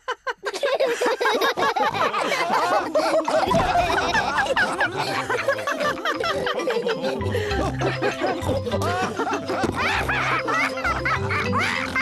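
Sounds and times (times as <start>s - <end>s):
cartoon characters laughing: 0.4s - 12.0s.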